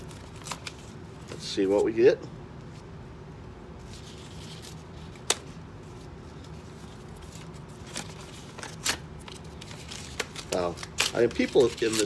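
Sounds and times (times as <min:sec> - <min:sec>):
paper envelope rustling: 0:00.0 - 0:02.0, 0:03.8 - 0:12.0
steady low hum: 0:00.0 - 0:12.0.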